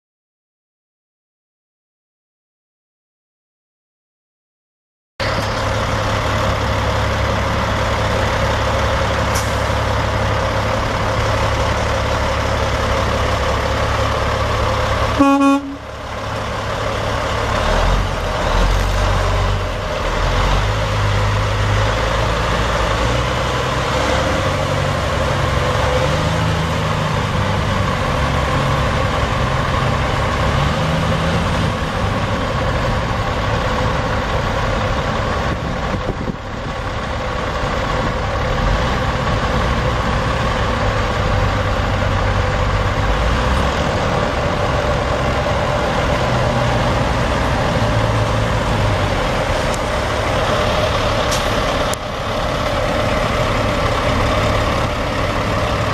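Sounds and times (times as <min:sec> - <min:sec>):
diesel truck engine idling: 0:05.2 - 0:55.9.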